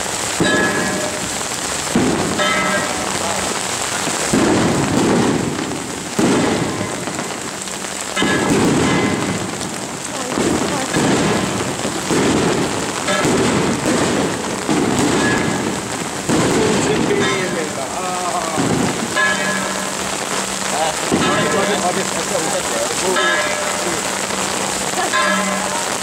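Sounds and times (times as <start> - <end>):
heavy rain on umbrellas: 0.0 - 26.0.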